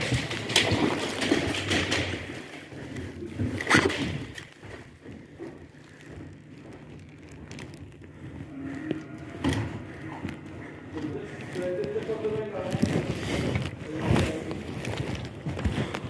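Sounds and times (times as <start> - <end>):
clothing rustling on microphone: 0.0 - 16.0
scuffs and small knocks: 0.0 - 16.0.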